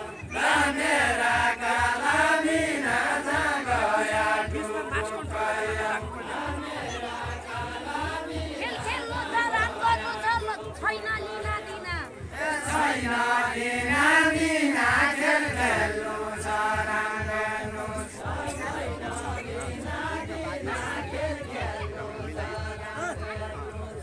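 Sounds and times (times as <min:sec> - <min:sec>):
group singing folk song: 0:00.0 - 0:24.0.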